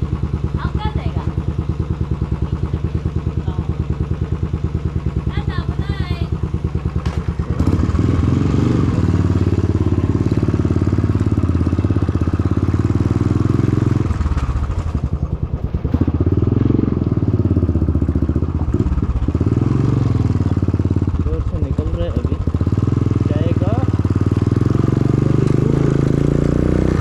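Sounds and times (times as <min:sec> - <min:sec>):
loud motorcycle engine: 0:00.0 - 0:27.0.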